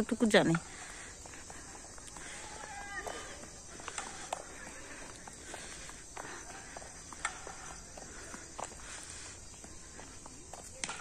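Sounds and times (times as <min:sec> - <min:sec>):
footsteps on dirt path: 0:00.0 - 0:11.0
insects chirping: 0:00.0 - 0:11.0.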